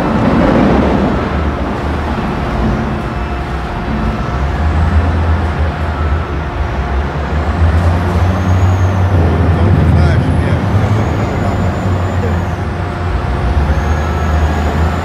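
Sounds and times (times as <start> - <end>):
heavy diesel engines droning: 0.0 - 15.0.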